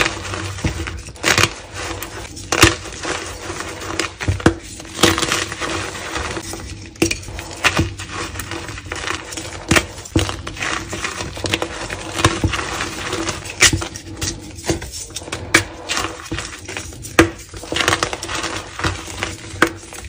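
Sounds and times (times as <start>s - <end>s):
chalk blocks crunching: 0.0s - 20.0s
gritty powder crackle: 0.0s - 20.0s.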